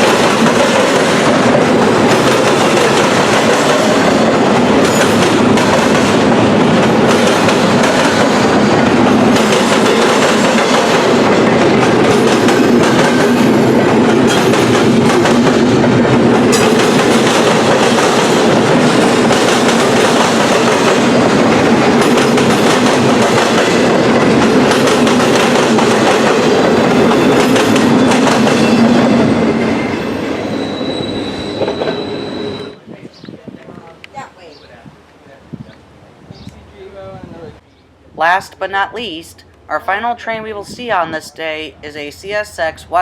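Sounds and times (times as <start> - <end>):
freight train wheels rumbling: 0.0 - 37.6.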